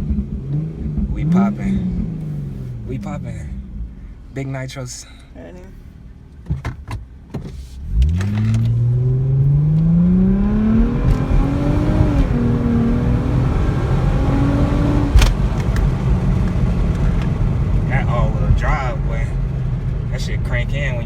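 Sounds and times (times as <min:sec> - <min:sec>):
car engine accelerating: 0:00.0 - 0:04.5, 0:07.8 - 0:21.0
road noise: 0:00.0 - 0:21.0.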